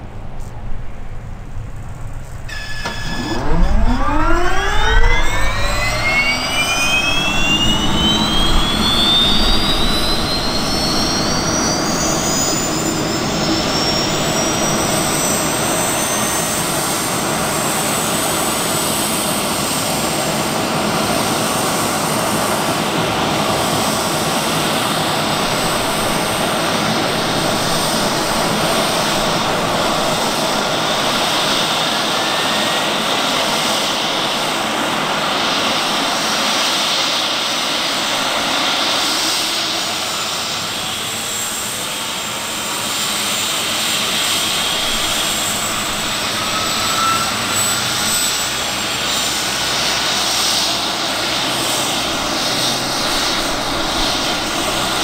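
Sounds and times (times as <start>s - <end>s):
helicopter engines rushing: 0.0s - 55.0s
high turbine whine: 0.0s - 55.0s.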